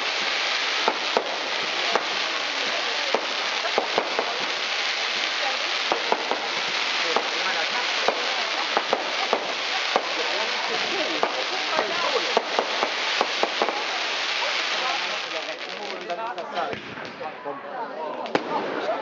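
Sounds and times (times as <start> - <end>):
fireworks crackling and hissing: 0.0 - 19.0.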